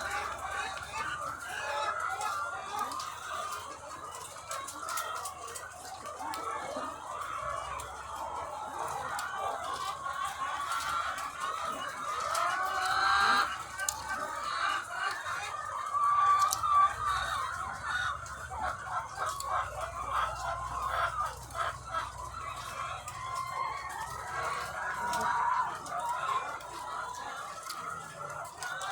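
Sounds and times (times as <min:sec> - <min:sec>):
hens clucking: 0:00.0 - 0:28.9.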